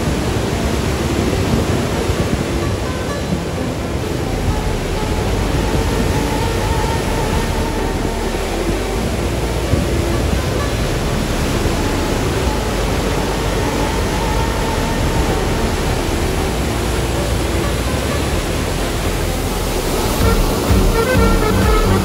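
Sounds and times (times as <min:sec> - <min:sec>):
river rapids rushing over rocks: 0:00.0 - 0:22.0.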